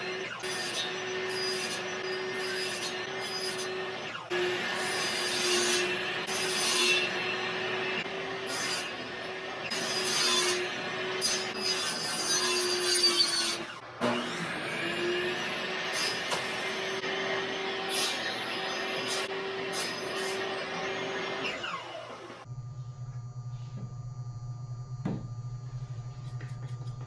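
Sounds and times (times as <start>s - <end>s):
power tool grinding wood: 0.0s - 22.5s.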